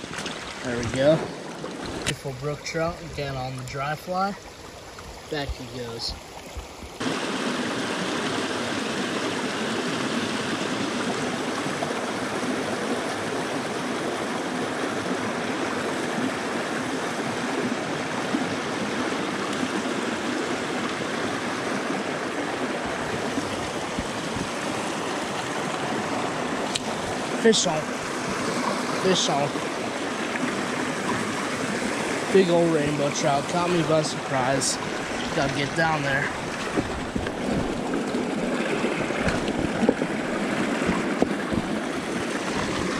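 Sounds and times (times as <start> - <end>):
stream rushing over cascade: 0.0 - 42.9.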